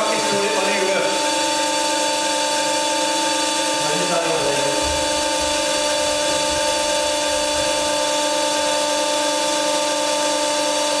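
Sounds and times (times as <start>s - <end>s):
steady mechanical whine: 0.0s - 11.0s.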